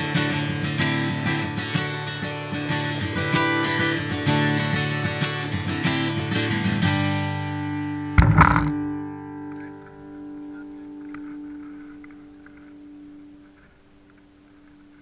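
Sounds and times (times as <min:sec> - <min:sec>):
acoustic guitar strumming chords: 0:00.0 - 0:13.6.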